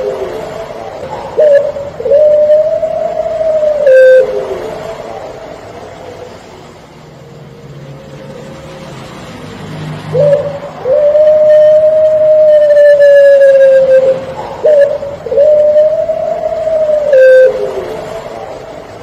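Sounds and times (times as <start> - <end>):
dove cooing: 0.0 - 6.4, 10.0 - 19.0.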